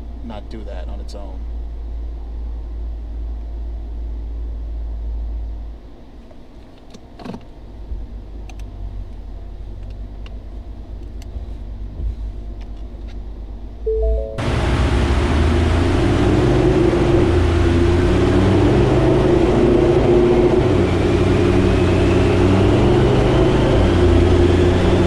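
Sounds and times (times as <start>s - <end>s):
car engine idling rumble: 0.0s - 25.0s.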